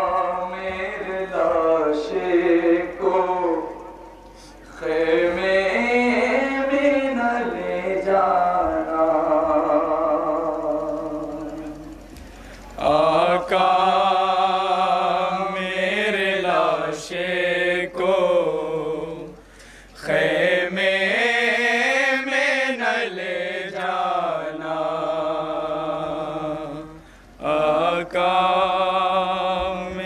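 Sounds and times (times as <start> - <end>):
men reciting a lament together: 0.0 - 30.0.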